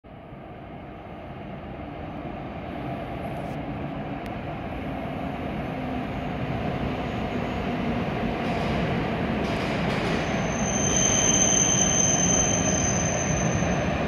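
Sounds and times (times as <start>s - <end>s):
train approaching: 0.1s - 14.0s.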